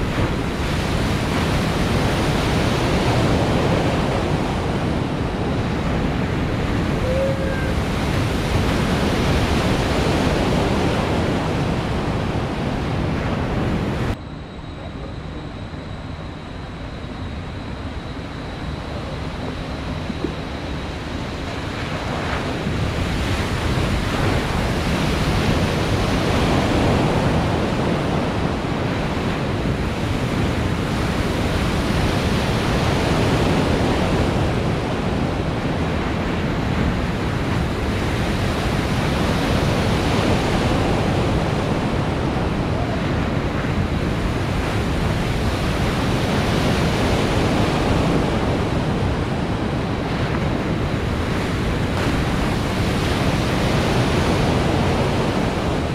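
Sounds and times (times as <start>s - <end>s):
water rushing and churning: 0.0s - 14.2s, 18.4s - 55.9s
wind buffeting microphone: 0.0s - 55.9s.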